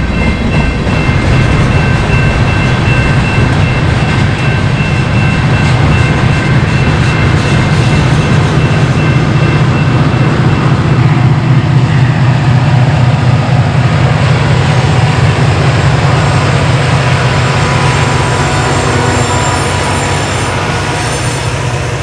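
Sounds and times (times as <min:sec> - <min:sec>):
freight train rolling on rails: 0:00.0 - 0:22.0
heavy diesel locomotive drone: 0:00.0 - 0:22.0.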